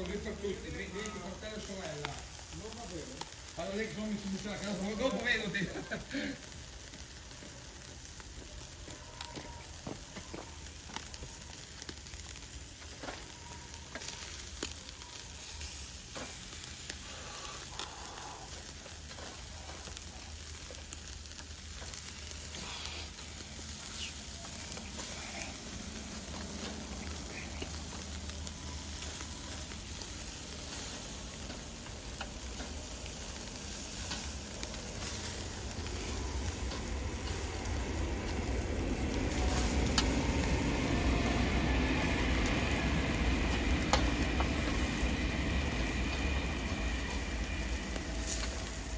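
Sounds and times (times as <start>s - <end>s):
fire pops and crackles: 0.0s - 48.9s
food sizzling in a pan: 0.0s - 48.9s.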